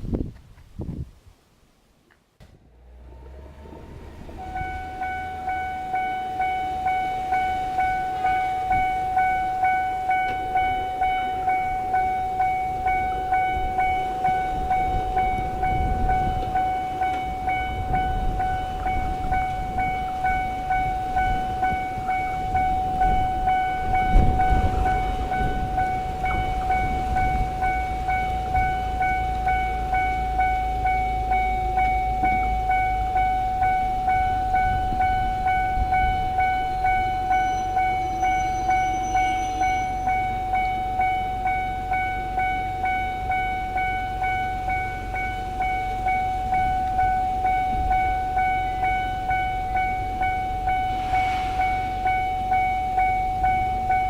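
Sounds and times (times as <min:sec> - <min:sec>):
electric train rumble: 0:02.4 - 0:54.0
train wheel clatter: 0:03.6 - 0:54.0
level crossing warning bell: 0:04.1 - 0:54.0.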